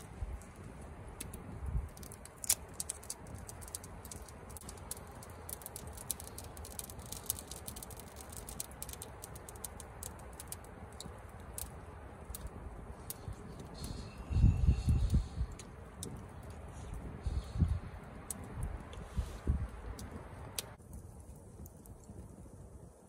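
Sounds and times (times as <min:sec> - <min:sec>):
low steady rumble: 0:00.0 - 0:22.8.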